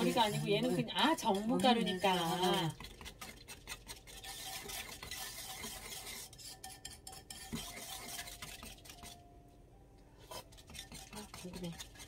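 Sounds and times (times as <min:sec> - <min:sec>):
fingers swishing in metal bowl: 0:00.0 - 0:09.2, 0:10.2 - 0:12.0.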